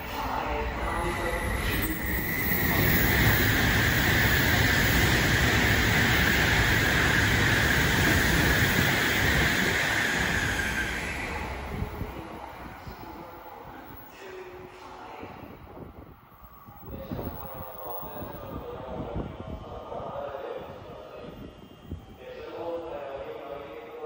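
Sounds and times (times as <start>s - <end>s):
high-speed train rushing past: 0.0s - 24.0s.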